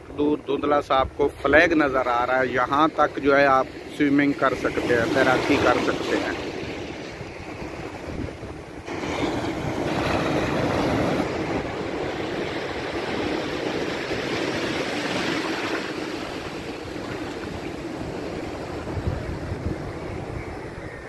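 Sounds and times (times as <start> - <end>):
small waves breaking: 3.6 - 21.0.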